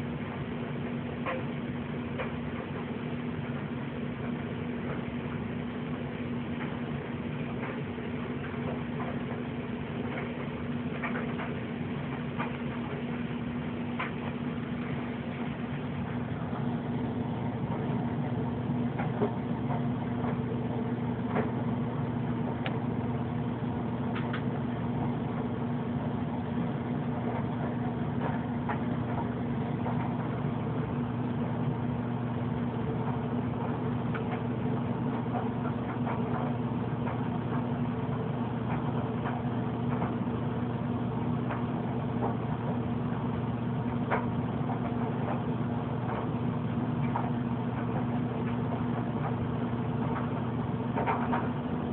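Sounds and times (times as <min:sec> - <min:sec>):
low steady hum: 0:00.0 - 0:51.9.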